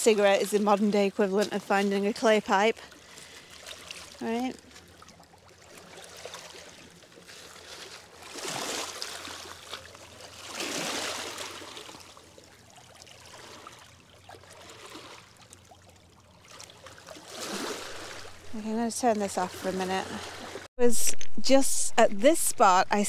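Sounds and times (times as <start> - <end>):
waves lapping over rocks: 0.0 - 20.7.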